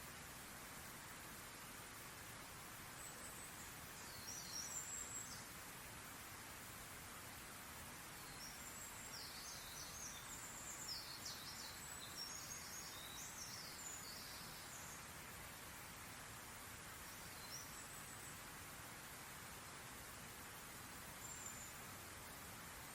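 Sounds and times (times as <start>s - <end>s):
faint songbirds chirping: 0.0s - 22.9s
outdoor background hiss: 0.0s - 22.9s.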